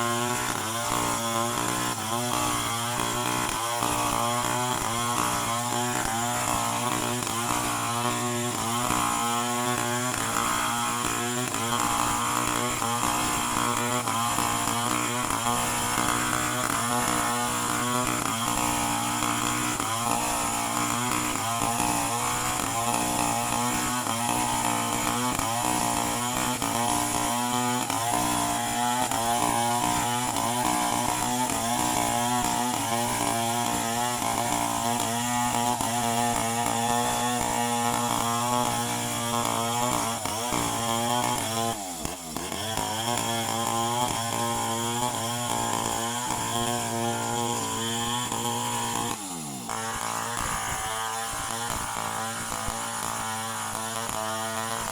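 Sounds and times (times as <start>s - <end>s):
chainsaw running: 0.0s - 54.9s.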